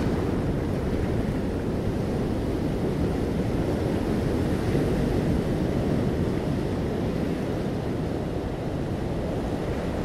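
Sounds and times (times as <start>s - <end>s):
waves washing over sand: 0.0s - 10.0s.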